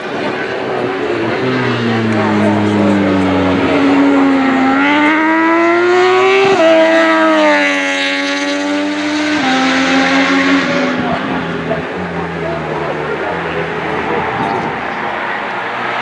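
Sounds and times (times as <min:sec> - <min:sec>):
motorcycle engine revving past: 0:00.0 - 0:16.0.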